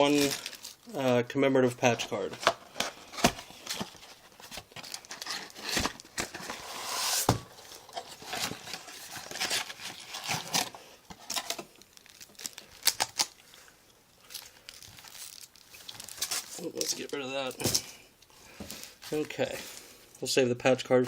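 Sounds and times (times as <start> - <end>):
card packaging crinkling and tearing: 0.0 - 13.5, 14.2 - 17.9.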